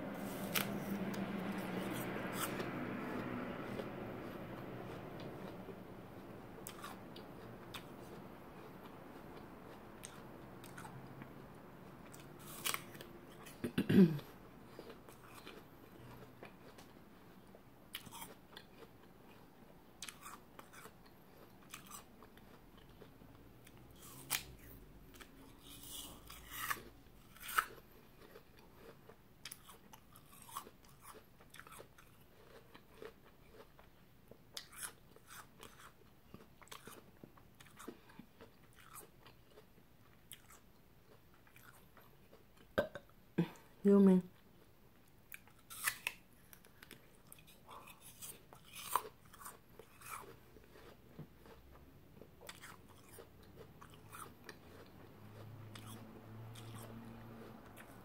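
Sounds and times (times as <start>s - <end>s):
person chewing crisp apple: 0.0s - 58.0s.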